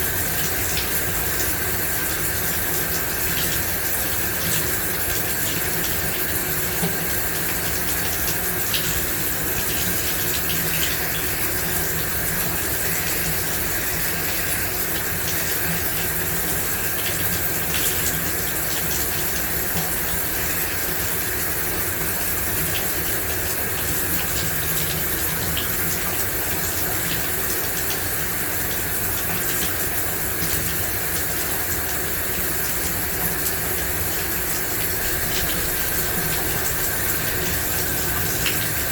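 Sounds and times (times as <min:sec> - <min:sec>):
shower water spraying: 0:00.0 - 0:38.9
small drips and ticks: 0:00.0 - 0:38.9.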